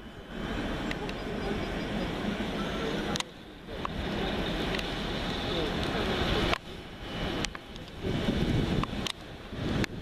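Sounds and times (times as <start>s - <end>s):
low rumble of distant engines: 0.0s - 10.0s.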